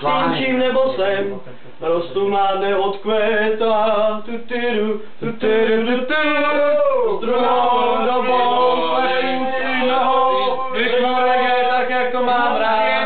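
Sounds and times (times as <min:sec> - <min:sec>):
young man singing a cappella: 0:00.0 - 0:13.0.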